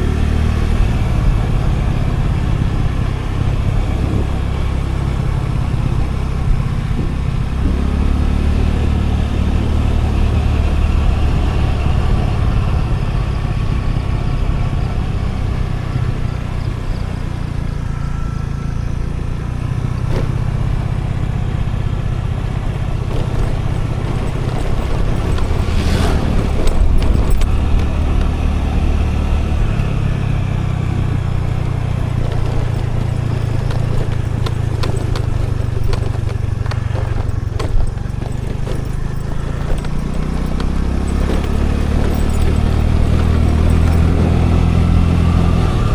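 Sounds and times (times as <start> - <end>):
road and wind noise: 0.0 - 45.9
scooter engine running: 0.0 - 45.9.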